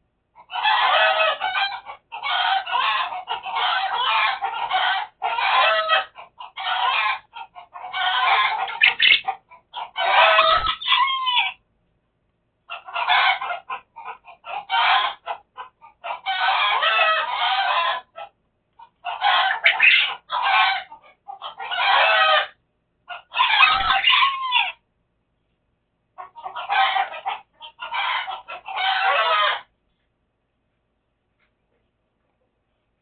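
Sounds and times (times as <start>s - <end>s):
chickens clucking: 0.4s - 11.6s, 12.6s - 24.8s, 26.1s - 29.7s.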